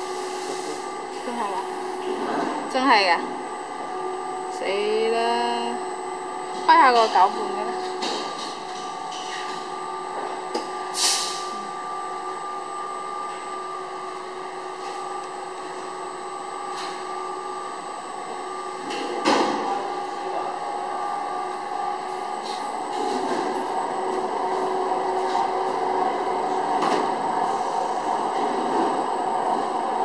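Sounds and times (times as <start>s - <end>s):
electric motors whining: 0.8s - 30.0s.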